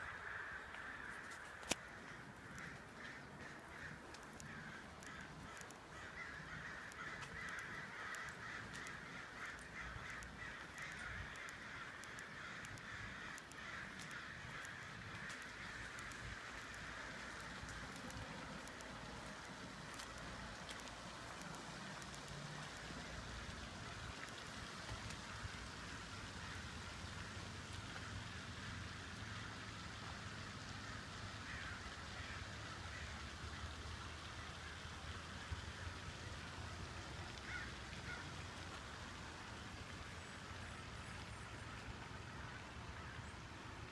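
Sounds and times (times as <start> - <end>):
flock of birds cawing: 0.0 - 43.9.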